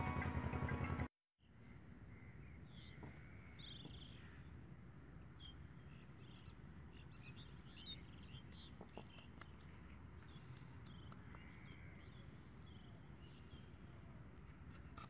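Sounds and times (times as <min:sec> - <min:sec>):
faint outdoor background noise: 0:00.0 - 0:15.0
small birds chirping: 0:00.2 - 0:15.0.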